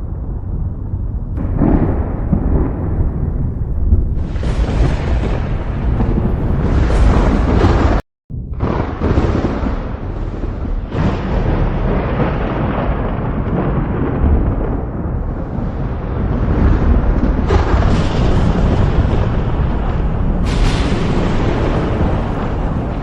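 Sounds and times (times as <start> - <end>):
steady rain: 0.0 - 8.0, 8.6 - 23.0
sharp thunder crack: 0.0 - 23.0
thunder rumbling: 0.0 - 23.0.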